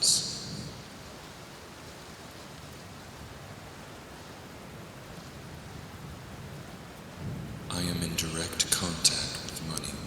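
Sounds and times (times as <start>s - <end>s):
steady rainfall: 0.0s - 10.0s.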